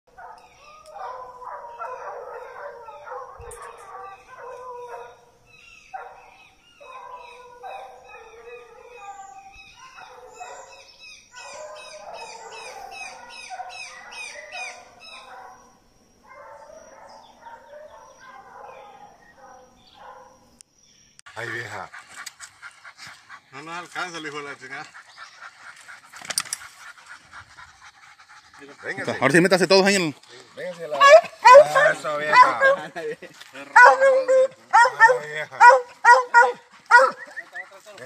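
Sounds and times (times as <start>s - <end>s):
hounds baying and howling: 0.1s - 20.5s, 21.5s - 38.0s.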